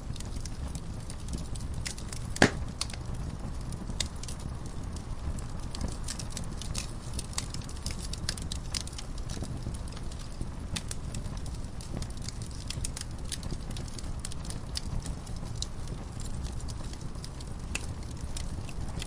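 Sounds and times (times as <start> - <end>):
low rumble of flame: 0.0 - 19.0
wood fire popping and snapping: 0.0 - 19.0.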